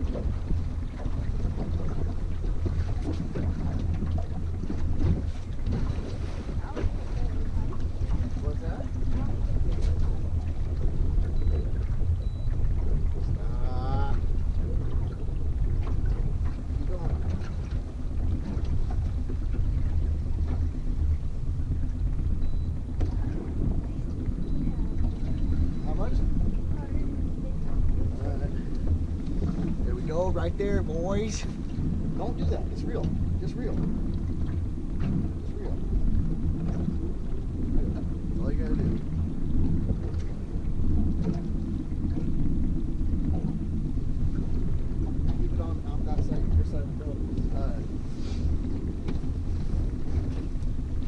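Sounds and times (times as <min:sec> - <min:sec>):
boat engine rumbling: 0:00.0 - 0:51.0
wind buffeting microphone: 0:00.0 - 0:51.0.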